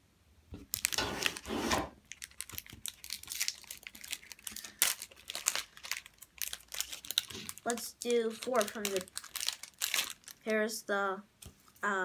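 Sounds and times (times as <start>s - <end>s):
foil wrapper crinkling: 0.6s - 10.5s.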